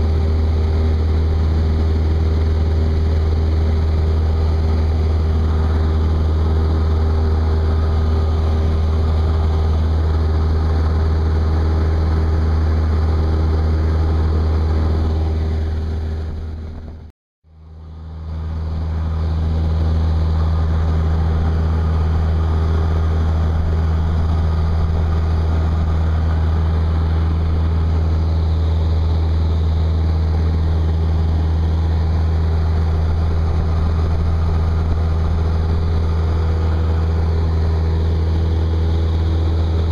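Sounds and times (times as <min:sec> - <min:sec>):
light aircraft engine drone in cabin: 0:00.0 - 0:39.9.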